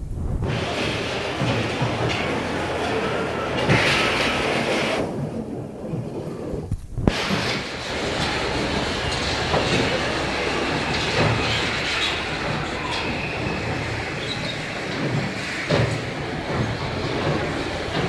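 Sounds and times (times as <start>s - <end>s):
bumper car rattling rumble: 0.0s - 18.0s.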